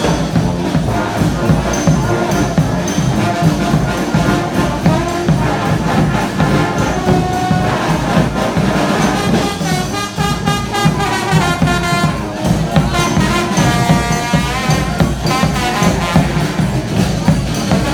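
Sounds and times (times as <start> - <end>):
brass band playing: 0.0 - 17.9.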